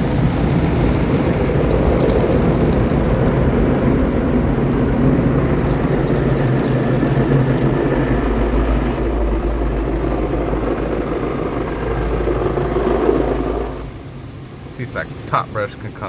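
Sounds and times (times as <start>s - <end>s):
car wash brushes and motors: 0.0s - 16.0s.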